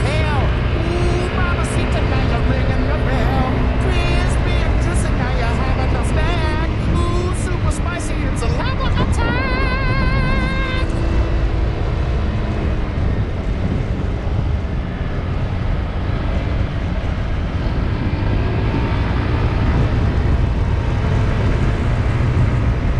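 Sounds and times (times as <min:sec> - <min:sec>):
road noise: 0:00.0 - 0:22.9
scooter engine running: 0:00.0 - 0:22.9.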